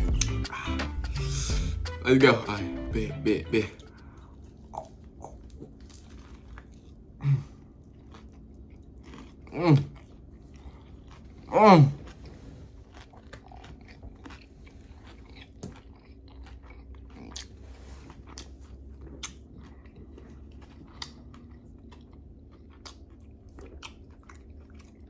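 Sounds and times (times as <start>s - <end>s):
chewing crispy fried chicken: 3.5s - 25.0s.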